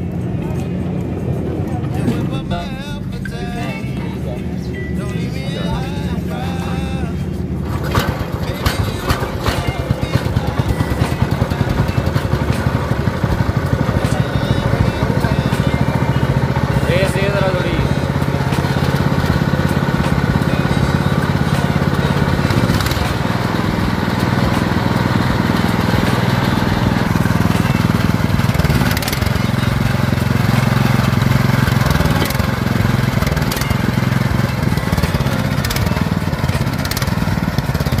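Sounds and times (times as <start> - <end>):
petrol engine running steadily: 0.0 - 38.0.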